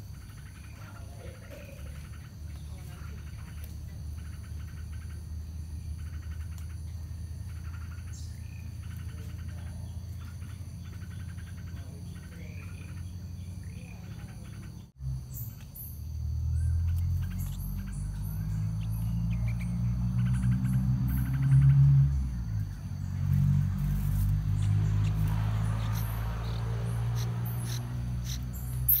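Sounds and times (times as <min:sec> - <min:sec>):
high insect drone: 0:00.0 - 0:29.0
insects chirping in trills: 0:00.0 - 0:29.0
sweeping bird calls: 0:00.0 - 0:29.0.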